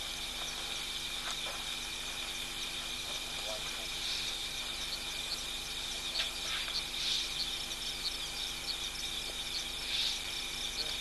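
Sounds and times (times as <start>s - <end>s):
crickets trilling: 0.0s - 11.0s
short high insect chirps: 0.0s - 11.0s.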